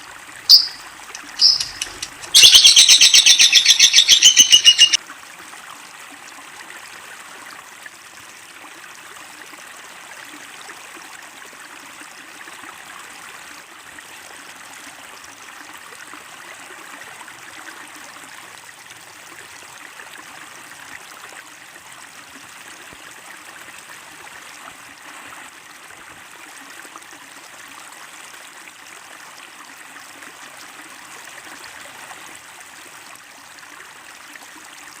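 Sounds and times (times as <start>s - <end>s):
stream water babbling: 0.0s - 35.0s.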